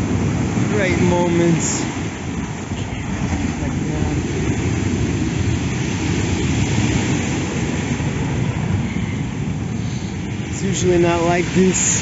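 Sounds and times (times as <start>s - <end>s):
heavy sea rumbling: 0.0s - 12.0s
wind buffeting microphone: 0.0s - 12.0s.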